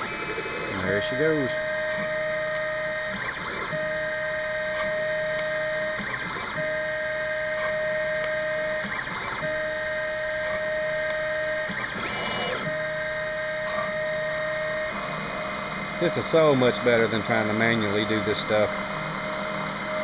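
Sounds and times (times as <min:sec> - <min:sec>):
milling machine whine: 0:00.0 - 0:20.0.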